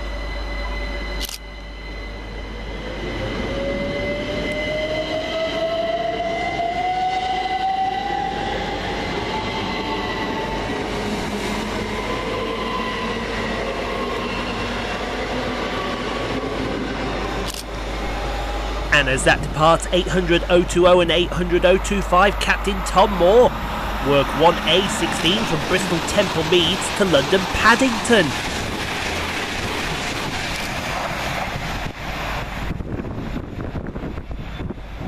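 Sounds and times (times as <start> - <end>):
train running noise: 0.0 - 35.0.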